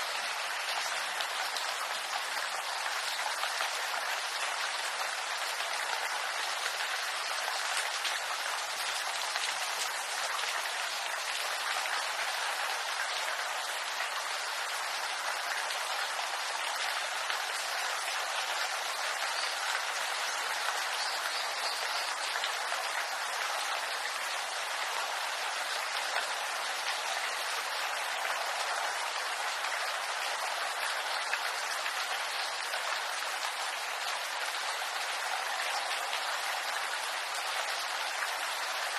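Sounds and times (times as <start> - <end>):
rain on bamboo leaves: 0.0 - 38.9.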